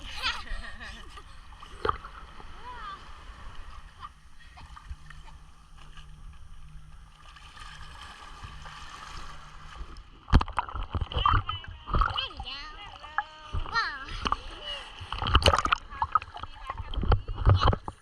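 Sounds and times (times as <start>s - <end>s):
muffled water sloshing: 0.0s - 18.0s.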